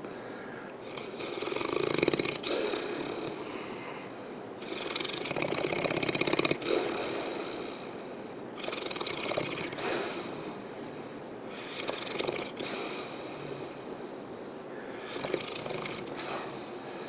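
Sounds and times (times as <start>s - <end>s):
dog snoring: 0.8s - 13.9s, 15.0s - 17.0s.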